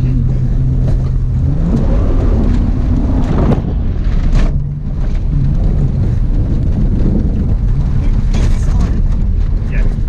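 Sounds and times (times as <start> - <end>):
car engine revving hard: 0.0 - 10.0
wind buffeting microphone: 0.0 - 10.0.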